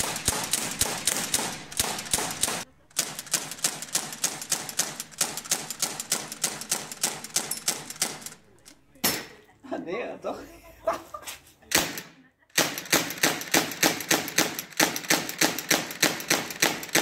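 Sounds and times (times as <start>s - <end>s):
air gun firing: 0.0s - 8.4s, 9.0s - 9.4s, 11.7s - 17.0s.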